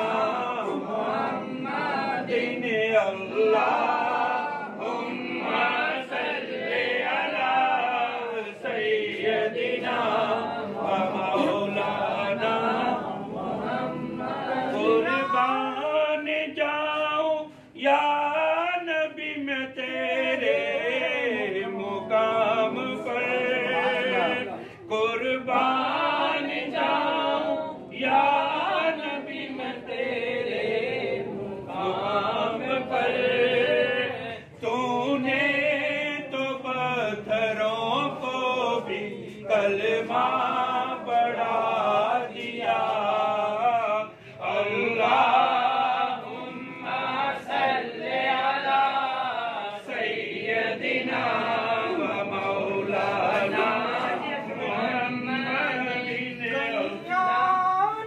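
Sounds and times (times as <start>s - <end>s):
men chanting together: 0.0s - 58.0s.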